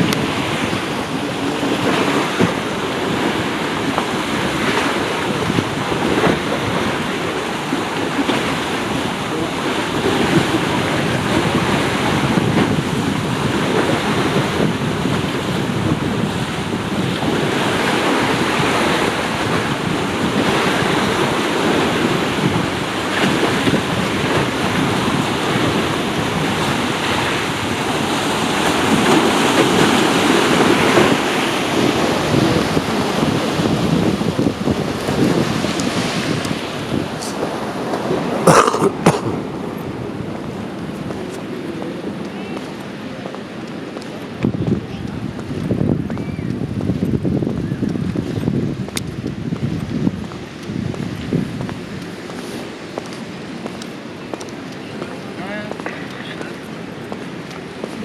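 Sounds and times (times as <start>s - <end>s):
water sloshing: 0.0s - 47.0s
wind buffeting microphone: 0.0s - 58.0s.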